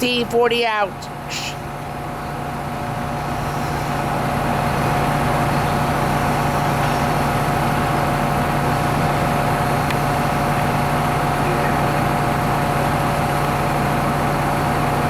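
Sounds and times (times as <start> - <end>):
locomotive engine humming: 0.0 - 15.0.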